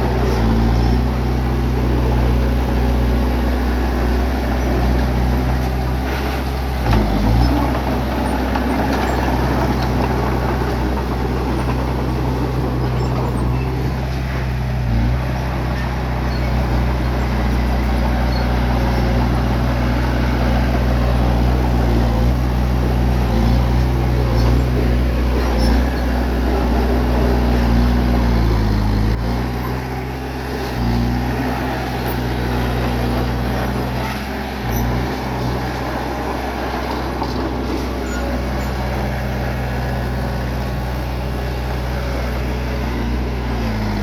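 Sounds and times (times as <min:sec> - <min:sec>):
bulldozer diesel engine droning: 0:00.0 - 0:44.0.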